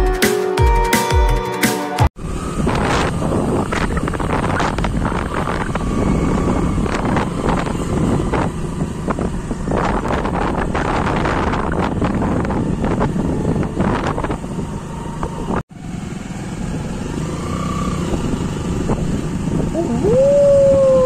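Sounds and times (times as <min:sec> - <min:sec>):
wind buffeting microphone: 0:02.2 - 0:15.7, 0:16.5 - 0:21.0
motorcycle engine: 0:02.2 - 0:20.2
road noise: 0:02.2 - 0:21.0.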